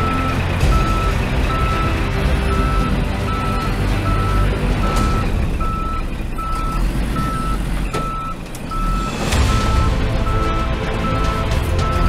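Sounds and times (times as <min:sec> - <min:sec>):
back-up alarm beeping: 0:00.0 - 0:12.0
diesel engines running: 0:00.0 - 0:12.0.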